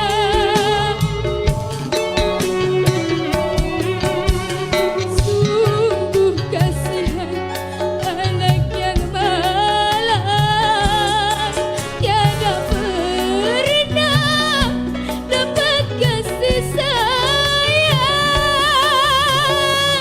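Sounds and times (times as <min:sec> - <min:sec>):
band playing bass and drums: 0:00.0 - 0:20.0
woman singing with vibrato: 0:00.0 - 0:20.0.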